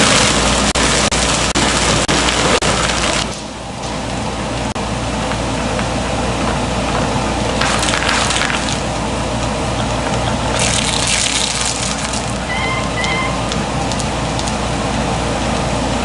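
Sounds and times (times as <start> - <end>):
shredding machine running: 0.0 - 16.0.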